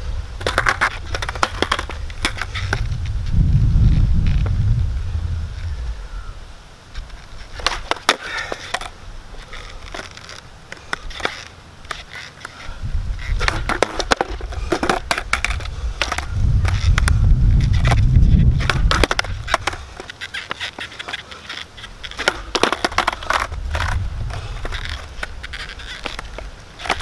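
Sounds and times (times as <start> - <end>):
skateboard wheels rumbling: 0.0 - 27.0
skateboard clacking on asphalt: 0.3 - 4.6, 6.9 - 27.0.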